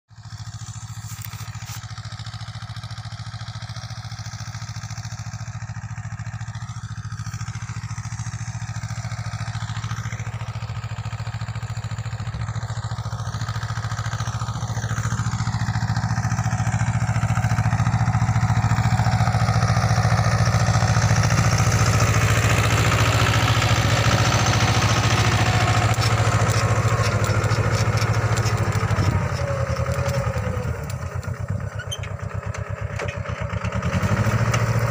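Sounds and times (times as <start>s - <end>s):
diesel tractor engine running: 0.2s - 34.9s.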